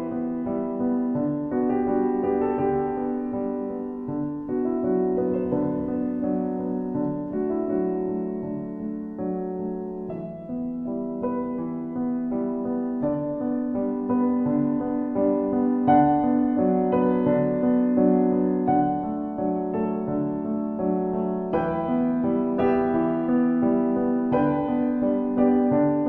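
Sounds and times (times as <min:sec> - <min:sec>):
solo piano music: 0:00.0 - 0:26.0.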